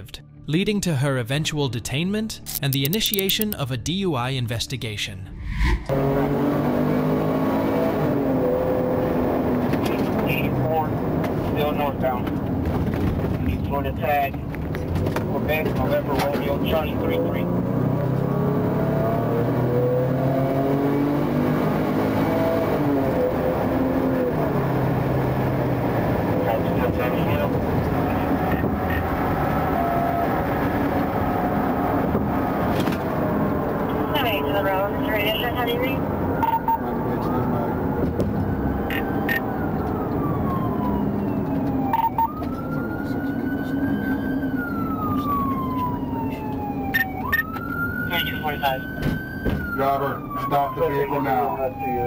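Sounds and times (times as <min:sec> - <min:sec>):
road noise: 0:05.2 - 0:52.0
car engine hum: 0:05.4 - 0:52.0
police siren wailing: 0:05.9 - 0:12.2, 0:15.4 - 0:52.0.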